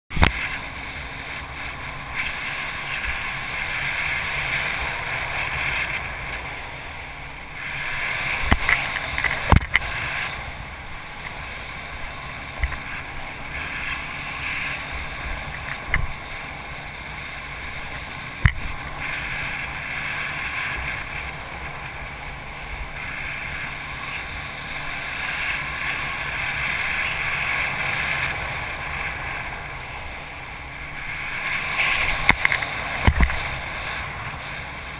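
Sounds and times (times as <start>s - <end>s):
water rushing under wakeboard: 0.1s - 34.9s
wind on camera: 0.1s - 34.9s.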